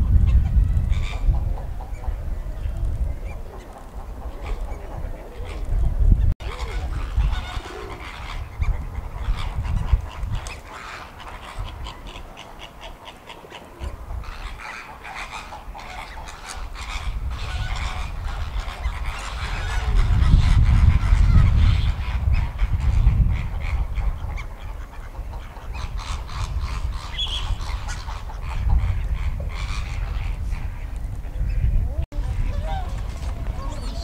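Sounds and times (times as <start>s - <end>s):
wind rumbling on microphone: 0.0s - 34.0s
flamingos honking: 6.4s - 34.0s.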